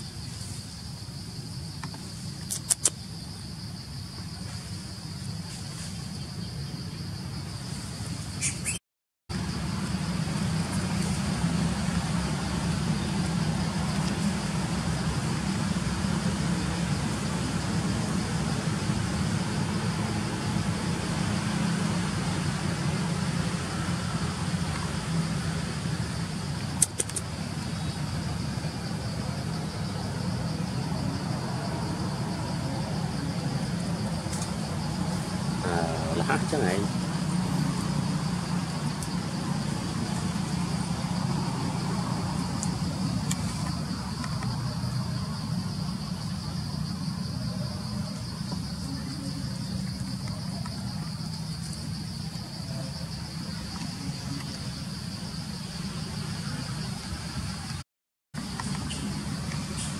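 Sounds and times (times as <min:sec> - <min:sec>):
high insect drone: 0:00.0 - 0:57.8, 0:58.4 - 0:59.9.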